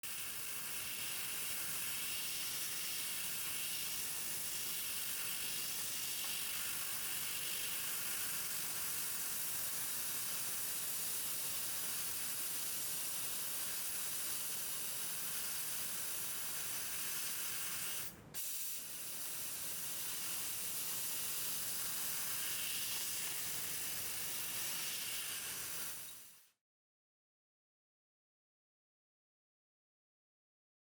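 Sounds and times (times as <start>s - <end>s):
laser cutter gas jet hissing: 0.0s - 26.5s.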